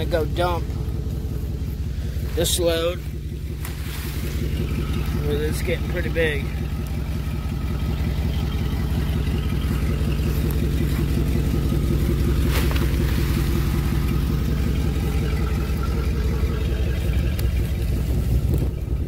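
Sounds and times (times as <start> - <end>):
truck engine rumbling at low revs: 0.0 - 19.0.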